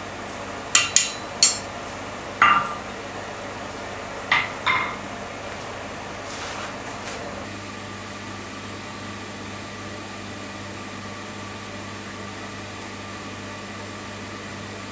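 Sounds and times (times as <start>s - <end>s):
electric fan hum: 0.0s - 14.9s.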